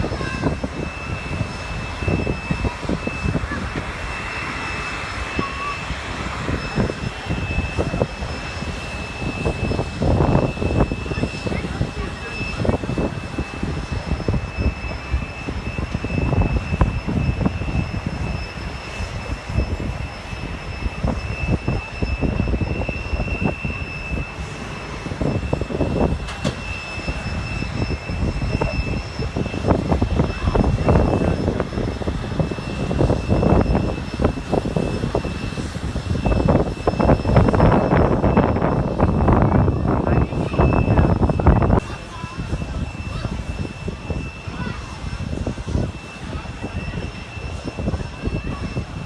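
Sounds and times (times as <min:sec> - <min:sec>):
jet engines whining: 0:00.0 - 0:49.0.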